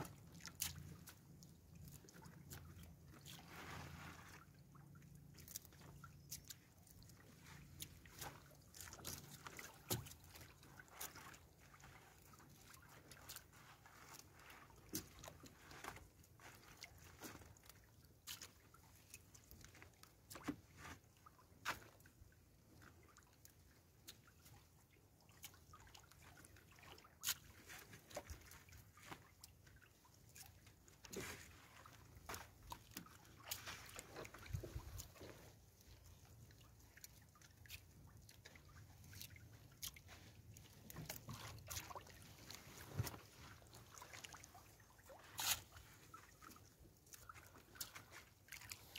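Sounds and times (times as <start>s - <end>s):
water dripping and sloshing: 0.0s - 48.9s.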